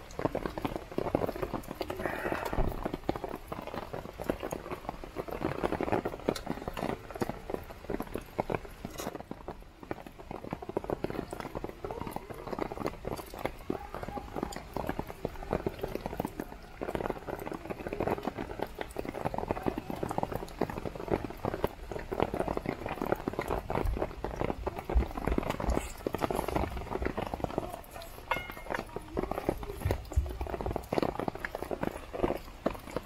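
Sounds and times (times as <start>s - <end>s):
heavy rain on a tarp: 0.0s - 33.0s.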